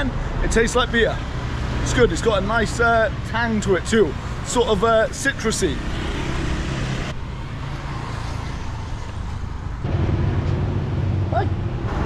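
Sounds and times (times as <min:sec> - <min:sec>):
vehicles passing on a street: 0:00.0 - 0:12.0.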